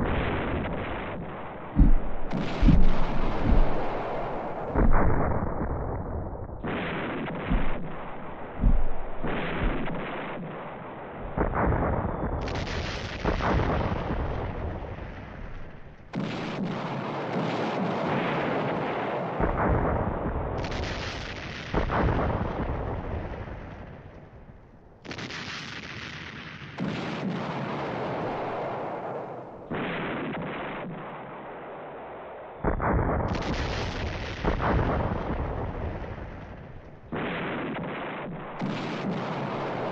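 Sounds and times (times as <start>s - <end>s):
battle gunfire and booms: 0.0s - 39.9s
sharp gunshots: 0.0s - 39.9s.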